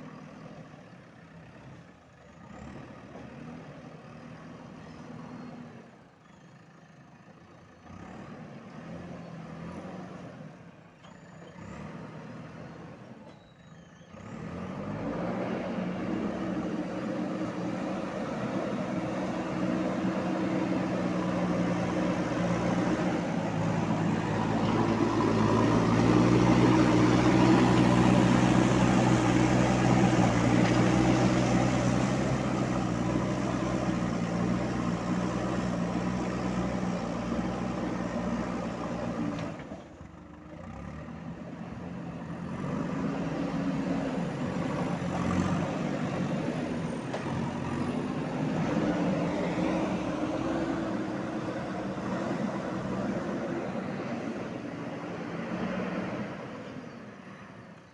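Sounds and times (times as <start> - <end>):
diesel engine under load: 0.0 - 57.9.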